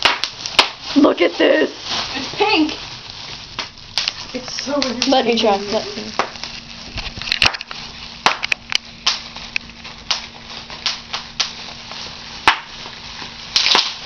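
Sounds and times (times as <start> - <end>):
bubble wrap popping: 0.0 - 14.0.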